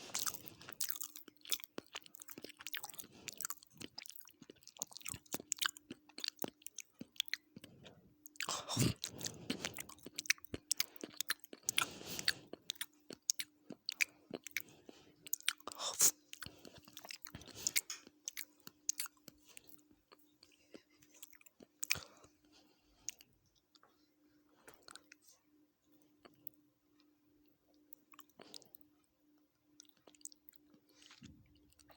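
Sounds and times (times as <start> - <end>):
close chewing with mouth smacks: 0.0 - 25.4, 27.7 - 29.1, 29.7 - 31.9
faint steady hum: 0.0 - 31.9.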